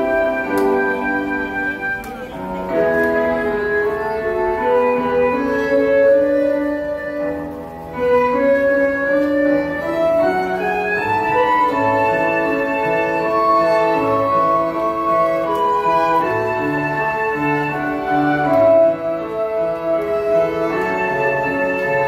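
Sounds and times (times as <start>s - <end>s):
violins playing slow melody: 0.0s - 22.0s.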